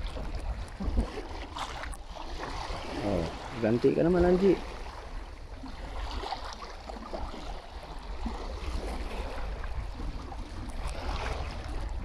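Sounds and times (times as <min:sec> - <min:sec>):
choppy water lapping: 0:00.0 - 0:12.0
wind rumbling on microphone: 0:00.0 - 0:12.0.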